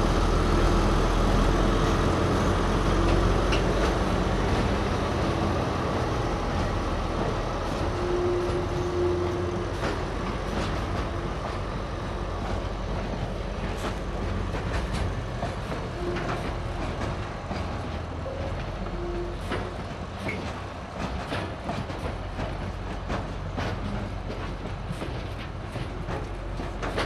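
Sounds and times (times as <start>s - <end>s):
locomotive low rumble: 0.0s - 27.0s
train wheels clacking over rail joints: 0.2s - 27.0s.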